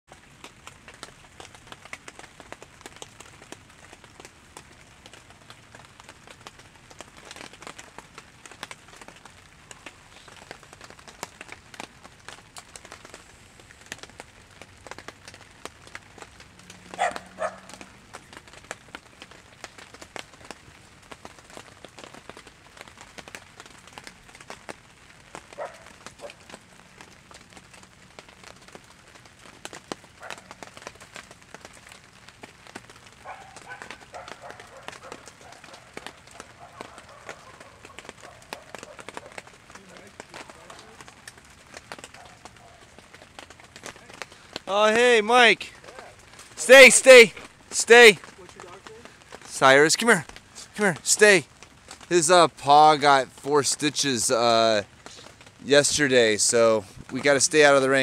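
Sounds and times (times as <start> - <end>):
rain falling: 0.1 - 58.0
raindrops ticking on surfaces: 0.1 - 58.0.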